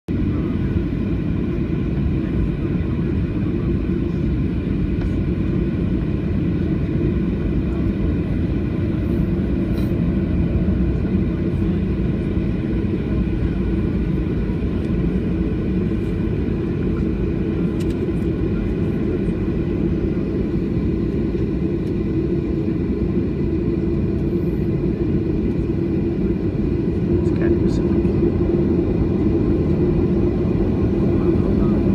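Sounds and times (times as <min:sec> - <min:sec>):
airliner cabin rumble: 0:00.1 - 0:31.9.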